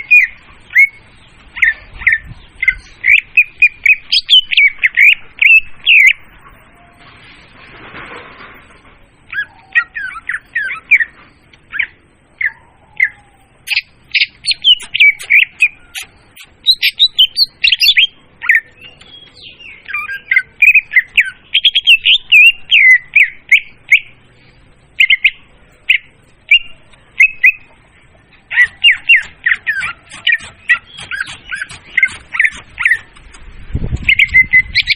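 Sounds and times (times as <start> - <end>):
bird chattering and warbling: 0.0 - 6.8, 9.3 - 34.9.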